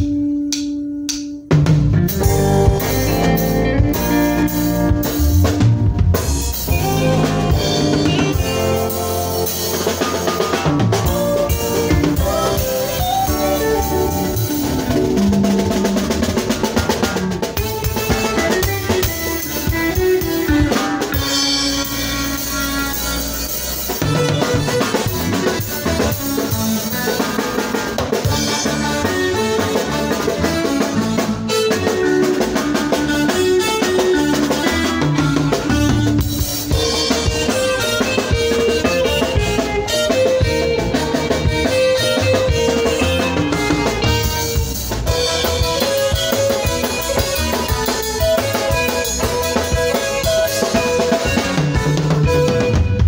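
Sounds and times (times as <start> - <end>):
drum kit with busy snare: 0.0 - 53.0
electric guitar lead lines: 0.0 - 53.0
live band playing dance music: 0.0 - 53.0.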